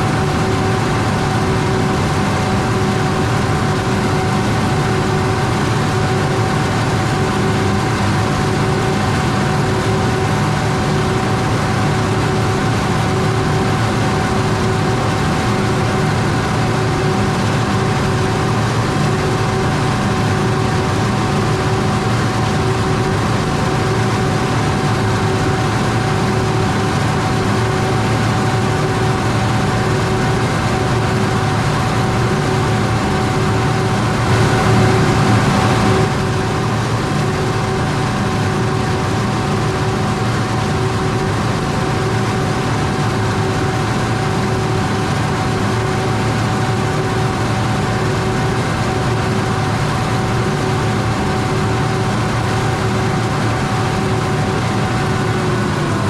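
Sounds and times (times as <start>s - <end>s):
broad rushing noise: 0.0s - 56.0s
harvesting machine engine drone: 0.0s - 56.0s
machinery whine: 0.0s - 56.0s.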